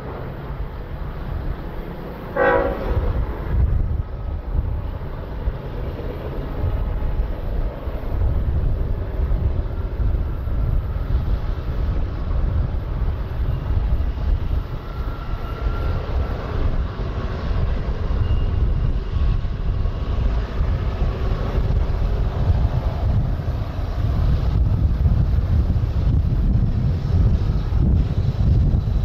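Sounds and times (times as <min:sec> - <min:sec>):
distant diesel locomotives droning: 0:00.0 - 0:29.0
wind buffeting microphone: 0:00.0 - 0:29.0.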